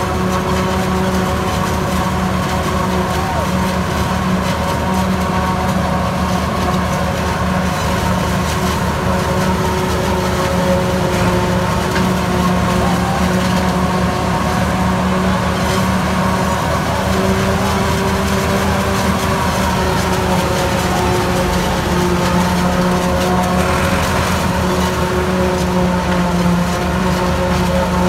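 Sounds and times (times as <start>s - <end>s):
forage harvester chopping maize: 0.0s - 28.0s
tractor engine running: 0.0s - 28.0s.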